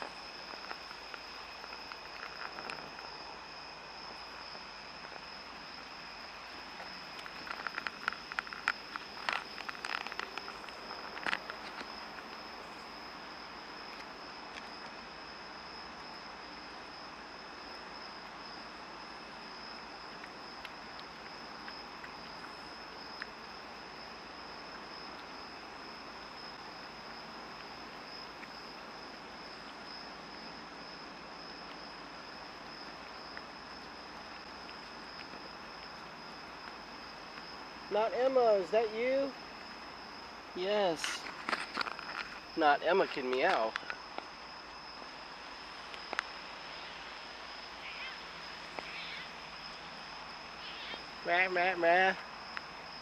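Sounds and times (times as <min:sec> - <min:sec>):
high-pitched insect song: 0:00.0 - 0:53.0.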